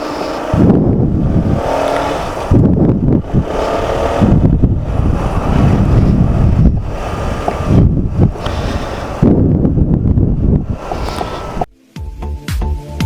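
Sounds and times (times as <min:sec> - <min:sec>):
motorcycle engine running: 0:00.0 - 0:11.7
wind buffeting microphone: 0:00.0 - 0:11.7.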